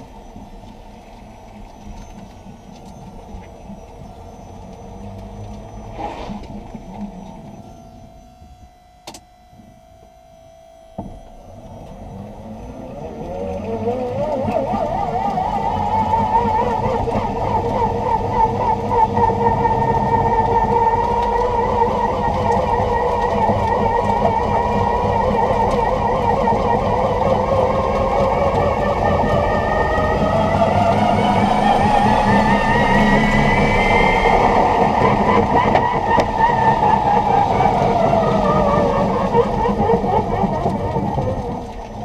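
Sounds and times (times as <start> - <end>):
road and tyre noise: 0.0 - 7.8, 11.0 - 42.0
electric motor whine: 0.0 - 42.0.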